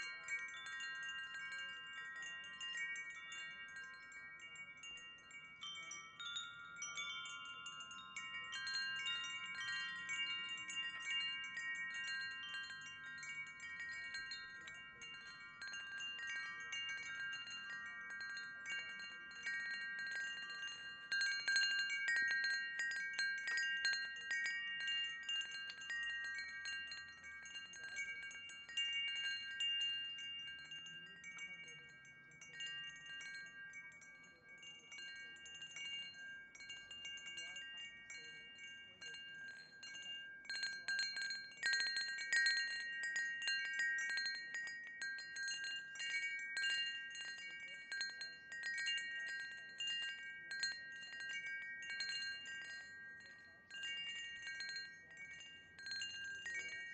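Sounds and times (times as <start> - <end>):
wind chimes ringing: 0.0 - 56.9.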